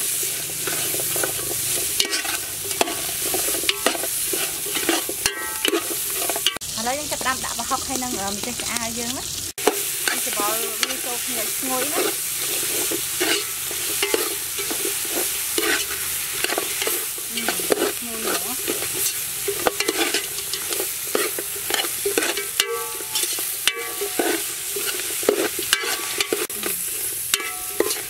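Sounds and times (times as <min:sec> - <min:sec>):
metal utensil scraping pan: 0:00.0 - 0:06.6, 0:07.5 - 0:28.0
hot oil sizzling: 0:00.0 - 0:28.0.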